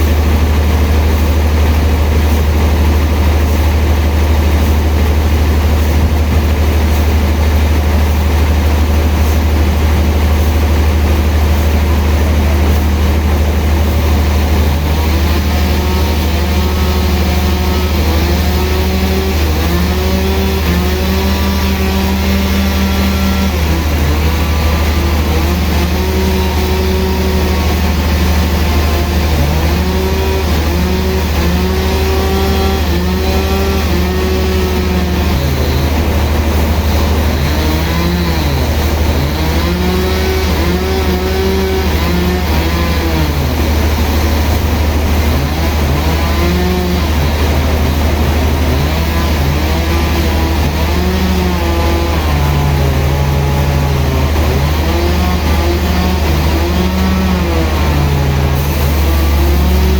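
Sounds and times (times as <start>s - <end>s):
engine rising and falling: 0.0s - 59.9s
sawmill machinery hum: 0.0s - 59.9s.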